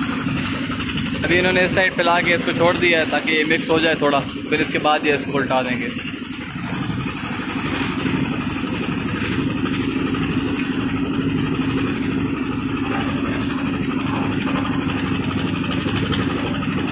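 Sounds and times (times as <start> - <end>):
concrete mixer engine humming: 0.0 - 16.9.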